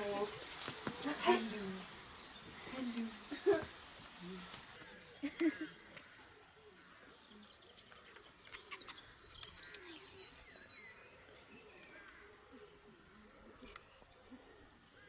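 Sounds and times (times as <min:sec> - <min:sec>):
birds chirping: 0:00.0 - 0:03.7, 0:04.8 - 0:15.0.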